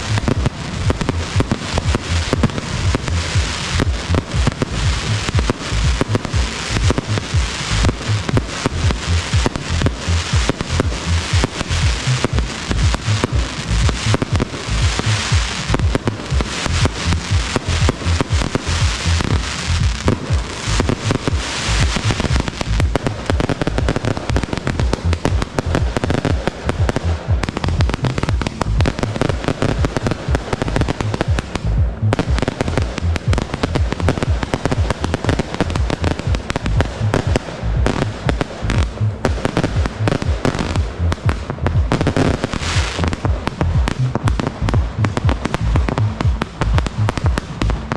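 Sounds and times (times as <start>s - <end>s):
fireworks bursts and crackle: 0.0s - 47.9s
music playing: 0.0s - 47.9s.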